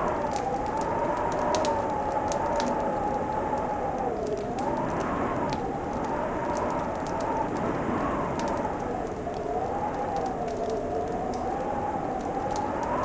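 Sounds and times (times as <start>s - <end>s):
wind moaning: 0.0s - 13.0s
wood fire crackling: 0.0s - 13.0s.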